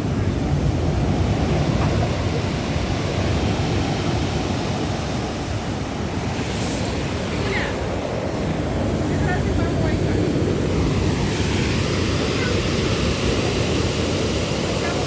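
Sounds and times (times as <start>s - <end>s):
sea surf washing: 0.0s - 15.0s.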